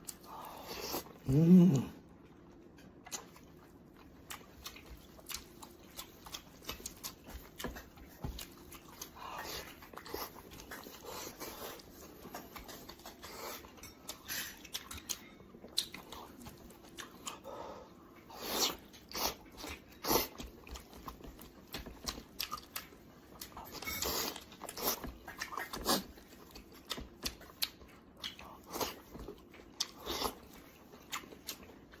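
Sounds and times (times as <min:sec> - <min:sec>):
chewing with wet smacks: 0:00.0 - 0:01.4, 0:02.0 - 0:32.0.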